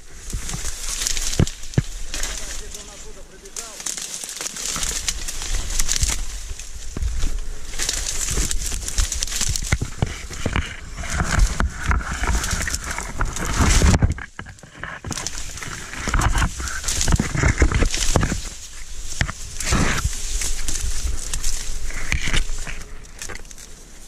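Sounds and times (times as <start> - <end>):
dry reed stems crackling and snapping: 0.0 - 24.0.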